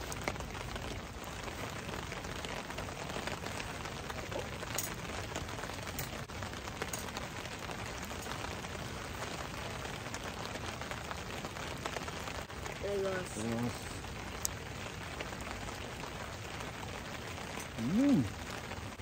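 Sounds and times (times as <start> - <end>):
fire popping: 0.0 - 19.0
rain pattering: 0.0 - 19.0
wood fire crackling: 0.0 - 19.0.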